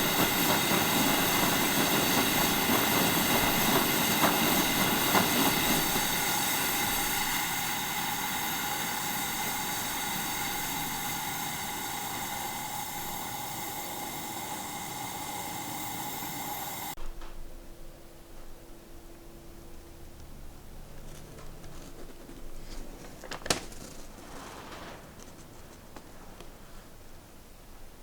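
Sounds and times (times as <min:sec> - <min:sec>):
gasoline burner hissing: 0:00.0 - 0:17.0, 0:20.8 - 0:28.0.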